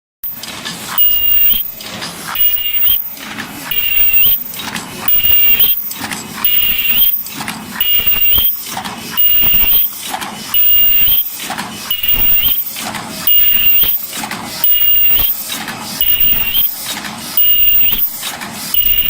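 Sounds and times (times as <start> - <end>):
machine high-pitched whine: 0.2 - 19.0
mechanical clacks: 0.2 - 19.0.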